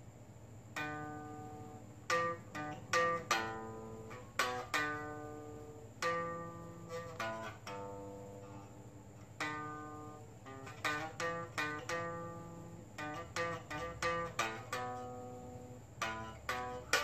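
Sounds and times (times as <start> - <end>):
electric guitar twang: 0.8 - 17.0.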